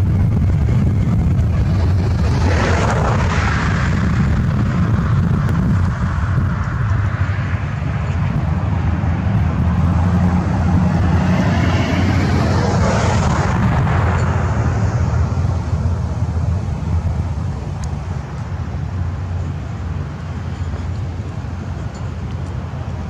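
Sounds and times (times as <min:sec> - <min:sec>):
vehicle passing: 0:00.0 - 0:21.6
road traffic rumble: 0:00.0 - 0:23.0.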